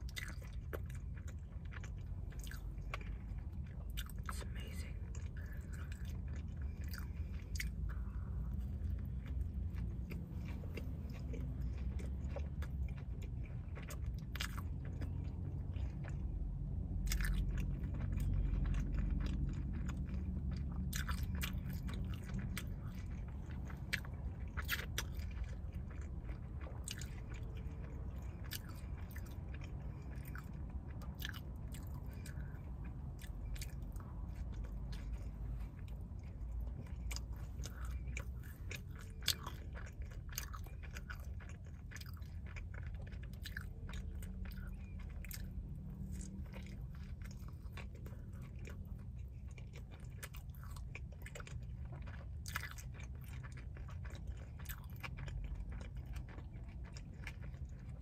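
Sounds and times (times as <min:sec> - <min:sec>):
person chewing and biting: 0:00.0 - 0:58.0
steady low hum: 0:00.0 - 0:58.0.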